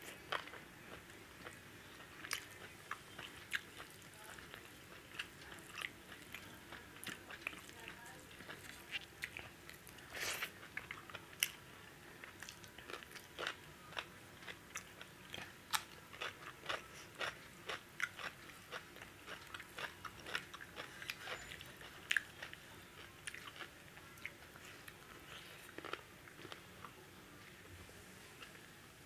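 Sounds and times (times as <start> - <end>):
chewing and lip-smacking: 0.1 - 11.6, 12.2 - 27.0.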